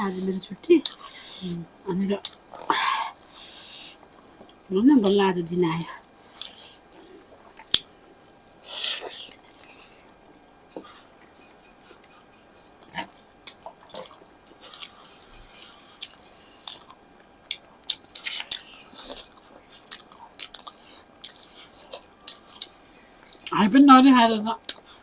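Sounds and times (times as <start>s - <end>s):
chewing and crunching: 0.0s - 23.7s, 24.5s - 25.0s.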